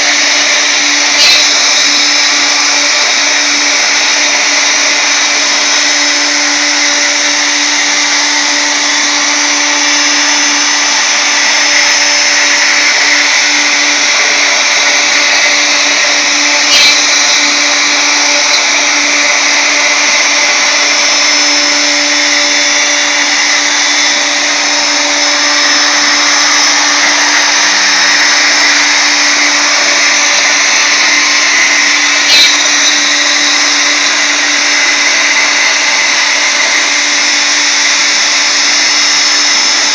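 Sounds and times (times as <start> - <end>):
router motor whining: 0.0 - 39.9.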